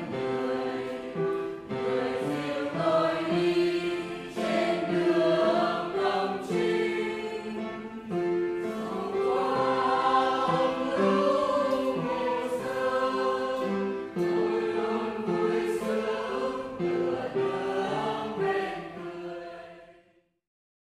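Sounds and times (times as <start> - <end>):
church choir singing a hymn: 0.0 - 20.2.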